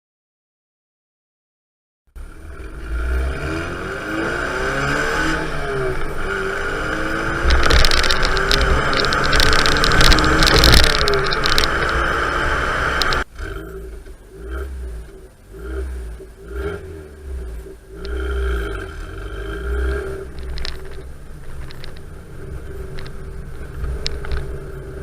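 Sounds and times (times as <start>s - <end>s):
car engine revving: 2.2s - 25.0s.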